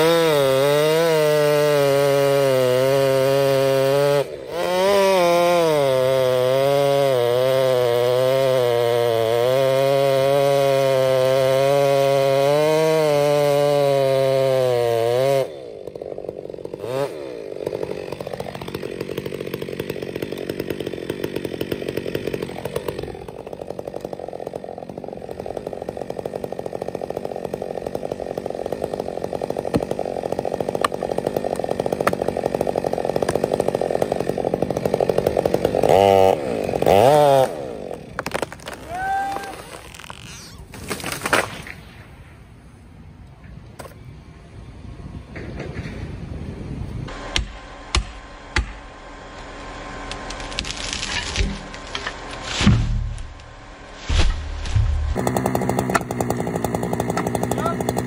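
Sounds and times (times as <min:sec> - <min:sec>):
chainsaw cutting tree trunk: 0:00.0 - 0:41.8, 0:47.1 - 0:58.0.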